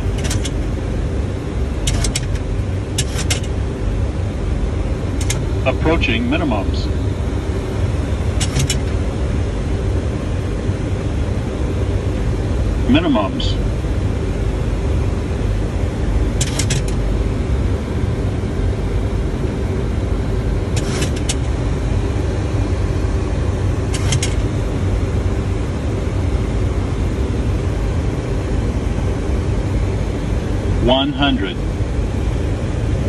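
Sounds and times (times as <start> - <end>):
cockpit airflow and engine rumble: 0.0 - 33.0.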